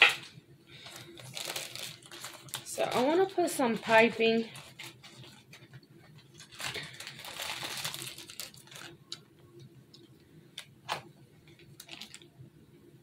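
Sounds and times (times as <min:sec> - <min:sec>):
plastic rustling and scraping: 0:00.0 - 0:09.2, 0:10.8 - 0:12.3.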